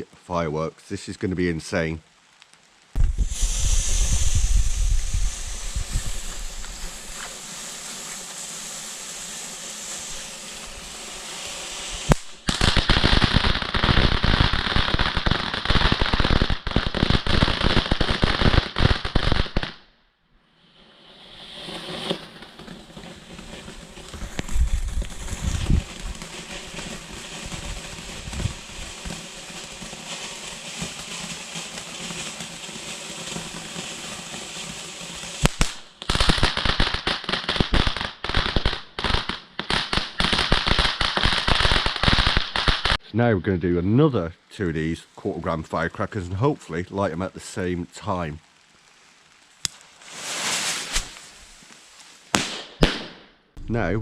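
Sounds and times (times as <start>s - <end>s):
firework crackling: 1.8s - 19.9s, 20.6s - 43.1s, 44.5s - 53.4s
firework fountain rushing hiss: 2.9s - 19.8s, 20.6s - 43.0s, 45.4s - 53.2s.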